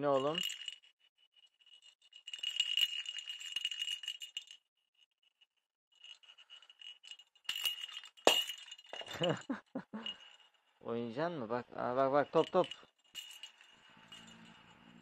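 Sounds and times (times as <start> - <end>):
bell jingling in ball toy: 0.0 - 5.4, 6.0 - 11.3, 12.0 - 15.0.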